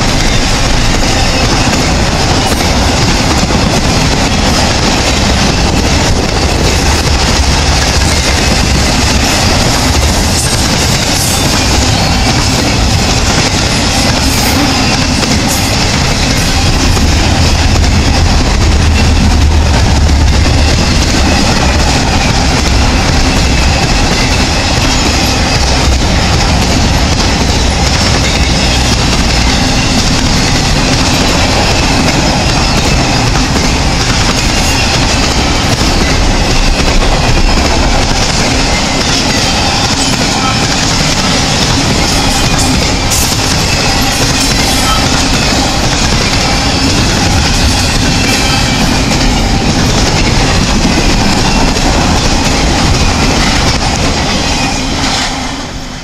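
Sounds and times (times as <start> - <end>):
freight train wheels rolling on rails: 0.0 - 56.0.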